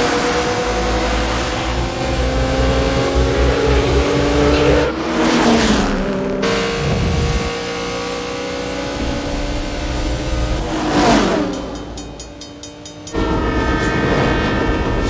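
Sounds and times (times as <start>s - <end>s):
car engines revving high: 0.0s - 15.0s
tyre and road noise: 0.0s - 15.0s.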